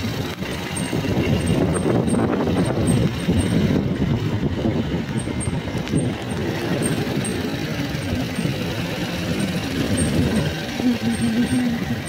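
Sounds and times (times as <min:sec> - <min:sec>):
motorbike traffic rumble: 0:00.0 - 0:12.0.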